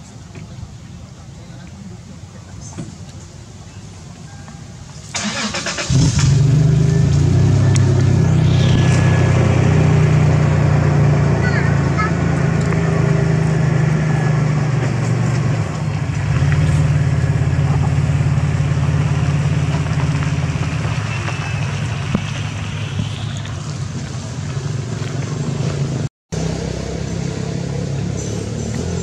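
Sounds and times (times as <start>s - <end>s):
low engine hum: 5.2s - 29.0s.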